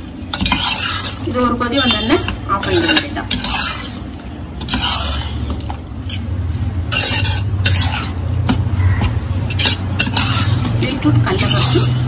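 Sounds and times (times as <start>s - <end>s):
metal spoon scraping pan: 0.2s - 12.0s.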